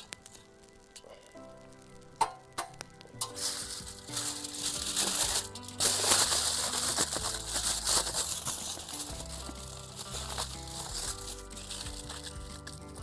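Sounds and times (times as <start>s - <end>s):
loud crinkling and rustling: 0.0s - 13.0s
soft background music: 0.0s - 13.0s.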